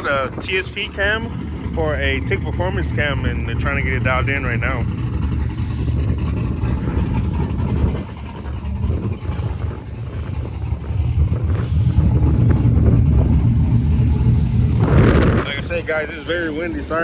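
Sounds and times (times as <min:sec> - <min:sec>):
truck engine idling: 0:00.0 - 0:17.0
wind buffeting microphone: 0:00.0 - 0:17.0.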